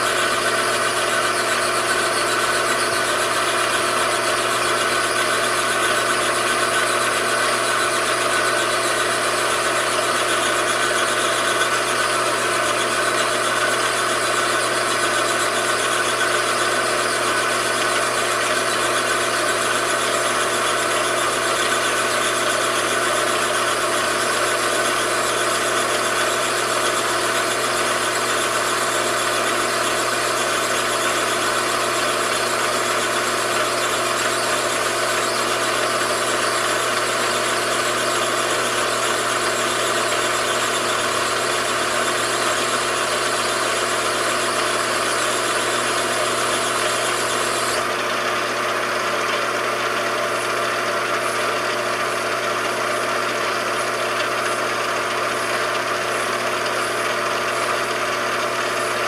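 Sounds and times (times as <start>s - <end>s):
constant machine whine: 0.0s - 59.0s
machine tool motor humming: 0.0s - 59.0s.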